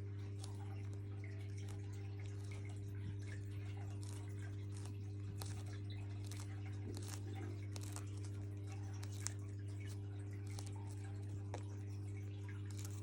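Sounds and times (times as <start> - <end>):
beak crunching leaves: 0.3 - 11.6, 12.6 - 13.0.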